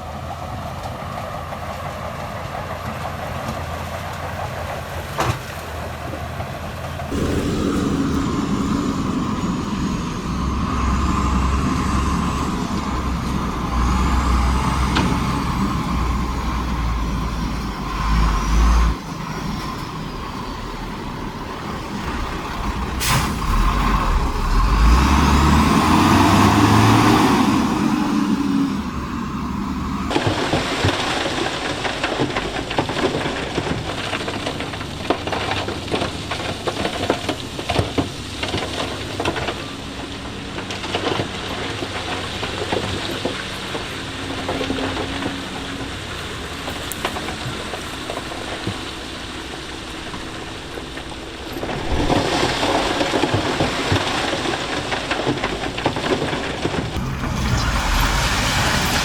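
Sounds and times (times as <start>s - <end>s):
heavy machinery engine drone: 0.0s - 59.0s.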